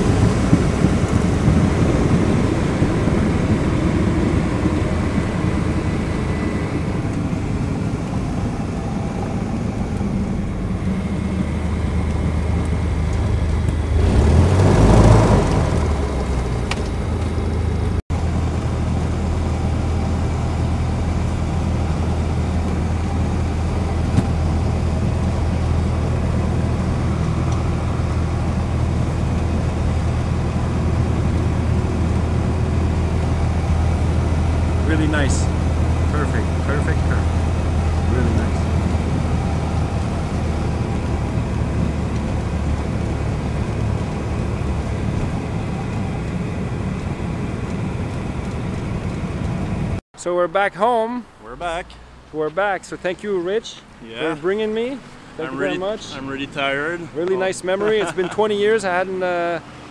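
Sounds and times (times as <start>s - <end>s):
light aircraft engine droning: 0.0s - 50.0s, 51.2s - 59.9s
rushing air: 0.0s - 50.0s.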